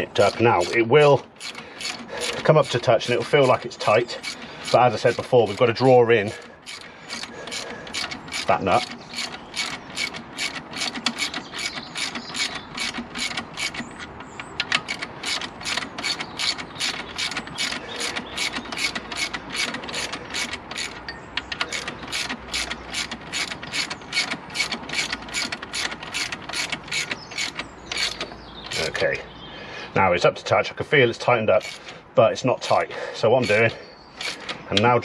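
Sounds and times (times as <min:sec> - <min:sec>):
socket ratchet clicking: 0:00.0 - 0:05.7, 0:06.6 - 0:28.9, 0:31.6 - 0:31.9, 0:33.4 - 0:34.9.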